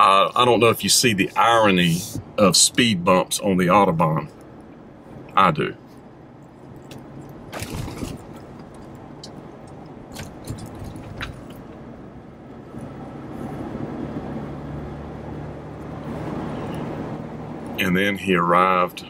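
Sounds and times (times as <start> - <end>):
truck engine and road hum: 0.0 - 19.0.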